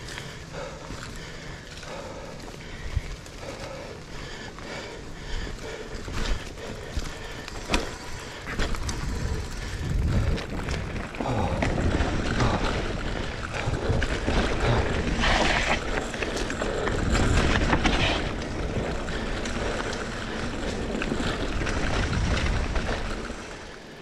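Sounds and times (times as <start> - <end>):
bike rattling over bumps: 0.0 - 24.0
bike tyres rolling over dirt: 0.0 - 24.0.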